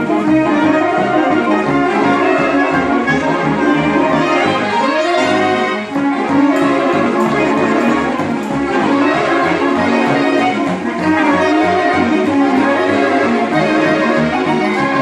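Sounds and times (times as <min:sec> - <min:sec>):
saxophone ensemble playing a march: 0:00.0 - 0:15.0.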